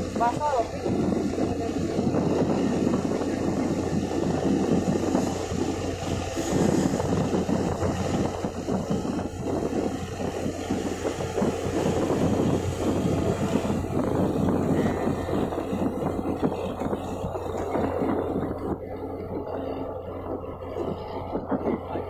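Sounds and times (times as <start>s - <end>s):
ship engine drone: 0.0s - 22.0s
wind buffeting microphone: 0.0s - 22.0s.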